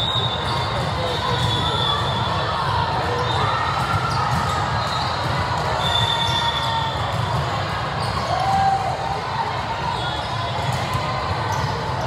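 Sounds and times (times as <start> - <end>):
hubbub of distant voices: 0.0 - 12.0.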